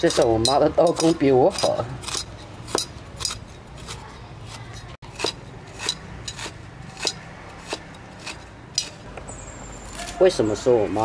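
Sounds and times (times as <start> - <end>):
cleaver chopping on wooden block: 0.0 - 9.3.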